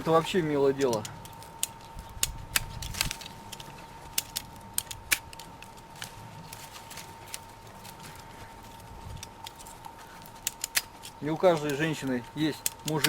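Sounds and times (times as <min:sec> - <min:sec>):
pruning shears clicking: 0:00.0 - 0:13.0.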